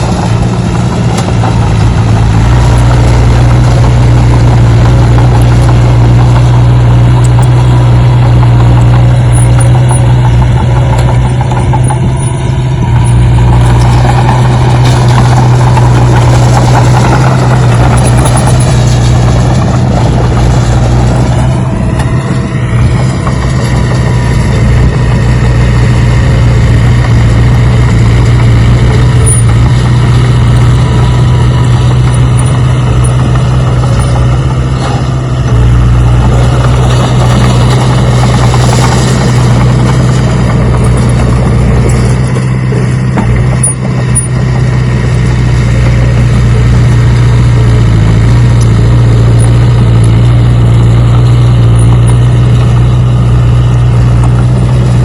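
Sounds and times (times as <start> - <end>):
engine running with low drone: 0.0 - 55.0.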